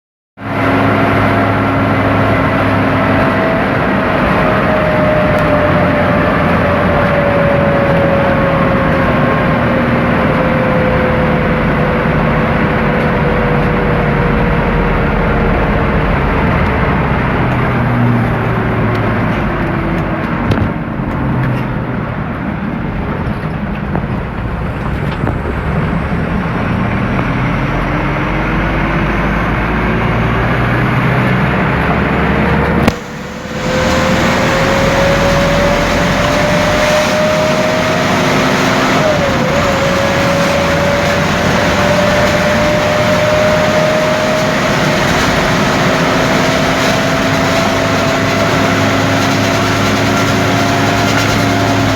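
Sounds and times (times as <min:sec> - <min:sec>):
whine changing pitch: 0:00.4 - 0:21.2, 0:21.8 - 0:51.9
diesel truck engine running: 0:00.4 - 0:51.9
road and wind noise: 0:00.4 - 0:51.9.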